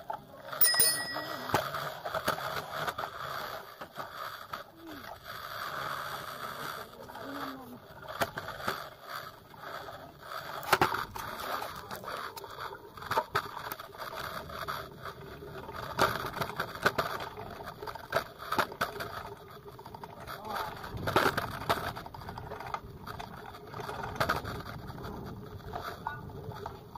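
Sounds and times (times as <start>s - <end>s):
bicycle rattling on dirt: 0.0s - 26.9s.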